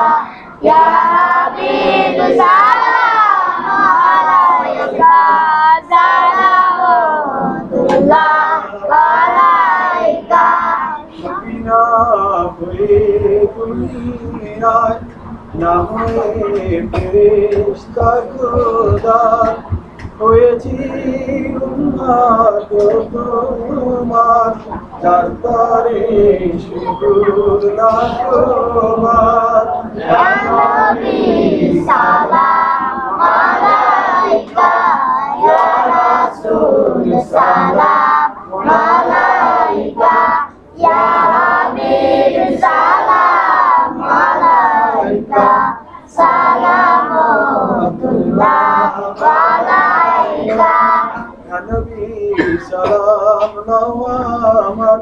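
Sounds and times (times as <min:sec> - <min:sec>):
man singing unaccompanied: 0:00.0 - 0:55.0.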